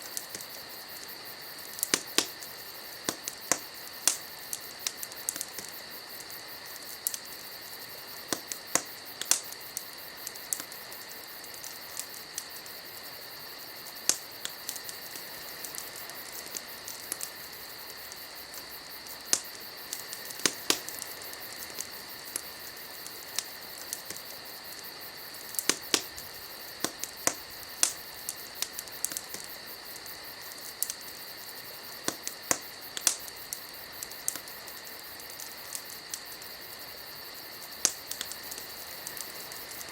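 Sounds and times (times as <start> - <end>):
campfire wood crackling: 0.0 - 39.9
fire hissing: 0.0 - 39.9.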